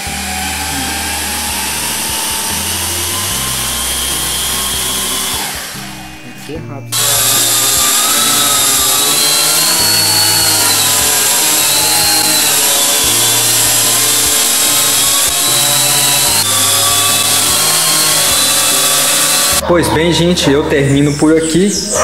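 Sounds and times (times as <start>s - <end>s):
drone propellers whirring: 0.0s - 20.3s.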